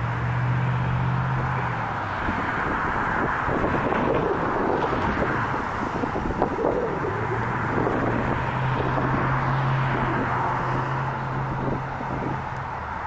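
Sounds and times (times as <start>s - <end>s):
low engine hum: 0.0s - 13.0s
traffic rumble: 0.0s - 13.0s.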